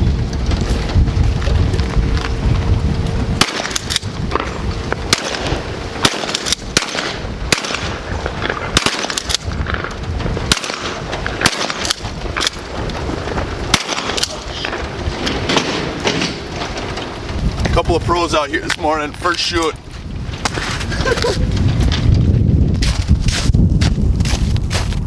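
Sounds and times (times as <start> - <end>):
wind or handling rumble: 0.0 - 25.0.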